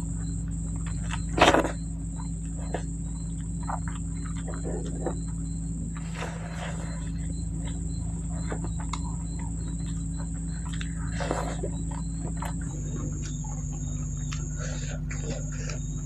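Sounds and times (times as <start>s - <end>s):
chewing and lip smacks: 0.0s - 16.0s
steady background hum: 0.0s - 16.0s.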